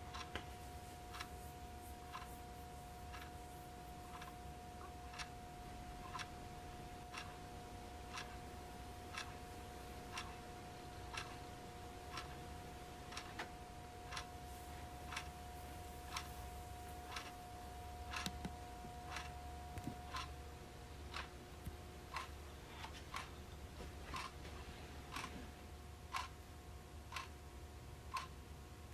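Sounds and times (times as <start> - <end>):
wall clock ticking: 0.0 - 27.4, 28.0 - 28.4
faint steady hum: 0.0 - 28.9.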